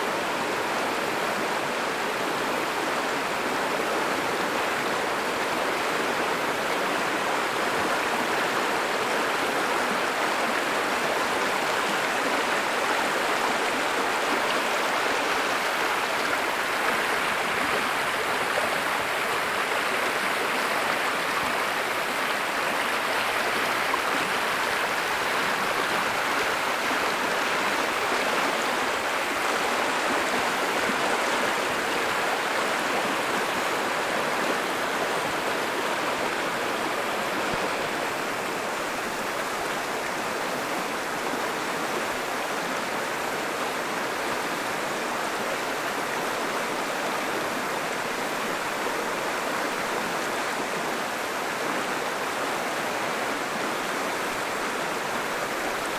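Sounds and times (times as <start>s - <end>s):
creek water rushing over rocks: 0.0s - 55.9s.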